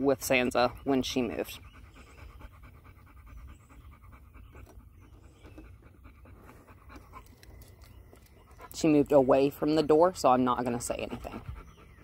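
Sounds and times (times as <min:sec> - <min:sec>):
dogs panting: 0:00.2 - 0:12.0.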